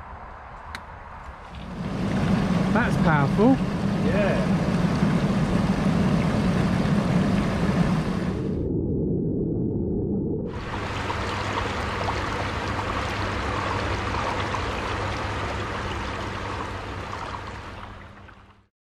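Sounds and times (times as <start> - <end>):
low hum: 0.6 - 18.7
hot tub jets churning water: 1.4 - 8.4, 10.5 - 18.7.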